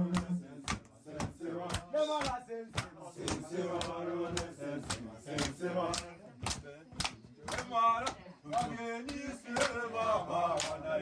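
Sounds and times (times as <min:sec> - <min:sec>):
voices singing: 0:00.0 - 0:11.0.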